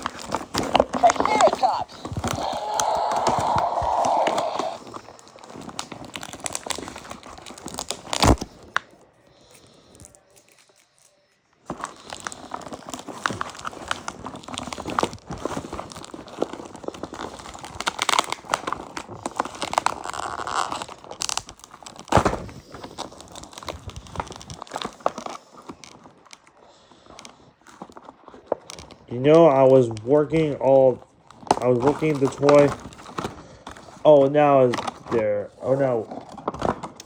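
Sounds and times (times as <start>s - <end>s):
plastic and cardboard packaging crinkling: 0.0s - 37.0s.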